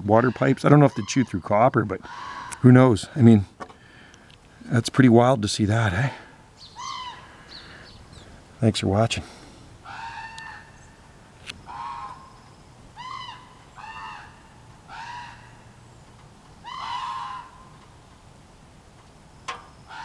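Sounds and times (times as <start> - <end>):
bird calling: 0.0 - 4.3, 6.1 - 8.4, 9.1 - 18.2, 19.2 - 20.0.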